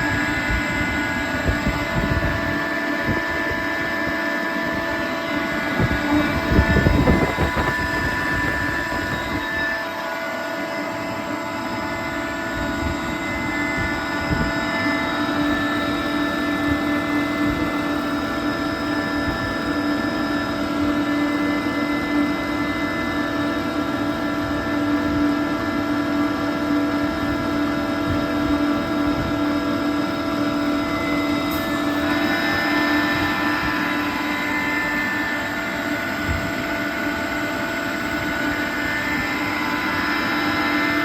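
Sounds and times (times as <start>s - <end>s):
air compressor humming: 0.0s - 41.0s.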